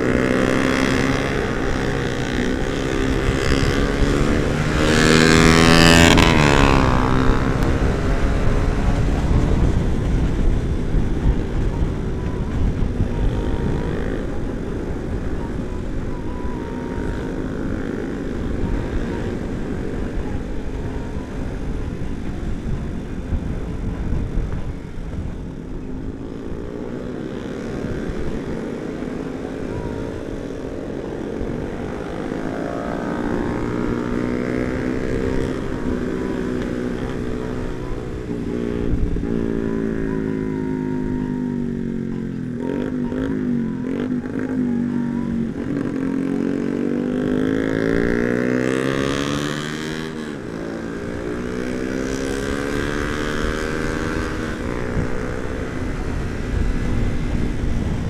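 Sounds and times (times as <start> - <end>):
motorcycle engines revving: 0.0 - 58.0
wind rumble: 0.0 - 58.0.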